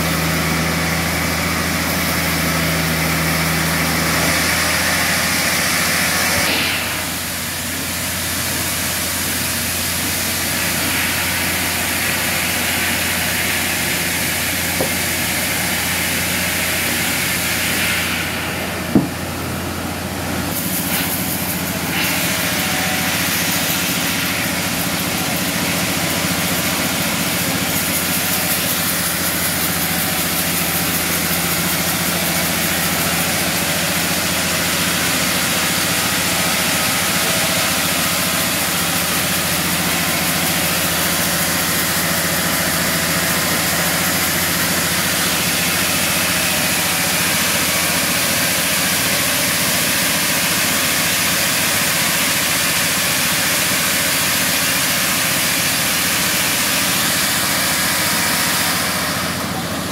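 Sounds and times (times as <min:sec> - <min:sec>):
band saw motor running: 0:00.0 - 0:59.9
saw blade hissing through wood: 0:00.2 - 0:59.6.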